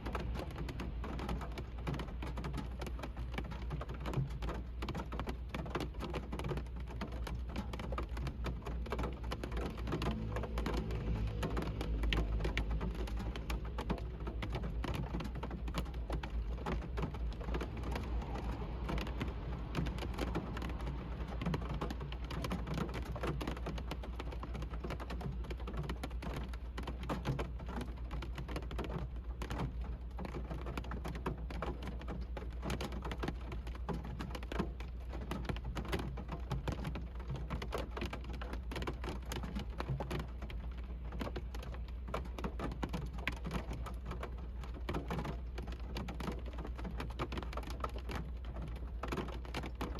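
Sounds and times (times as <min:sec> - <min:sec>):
rain drops ticking on car: 0:00.0 - 0:49.9.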